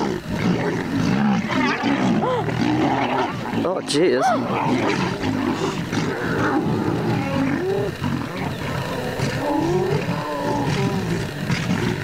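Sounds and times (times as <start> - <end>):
lion rising calls: 0.0 - 12.0
lions growling: 0.0 - 12.0.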